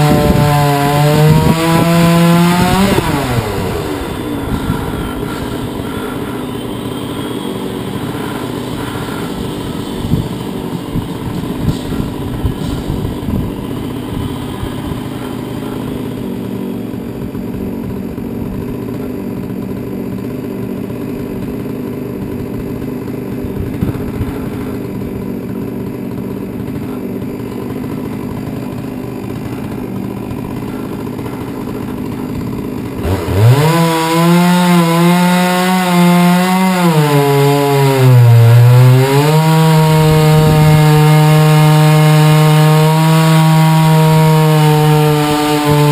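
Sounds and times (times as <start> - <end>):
chainsaw running: 0.0 - 45.9.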